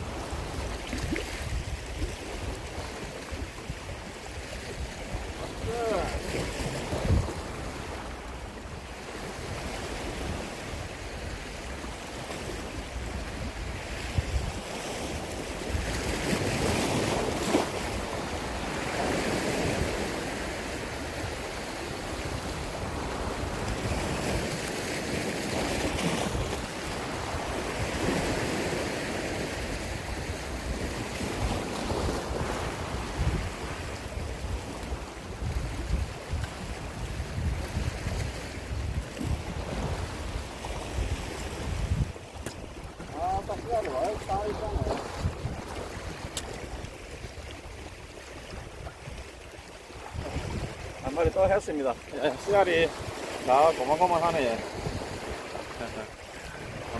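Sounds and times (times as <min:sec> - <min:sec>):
sea waves washing on shore: 0:00.0 - 0:56.9
wind buffeting microphone: 0:00.0 - 0:56.9.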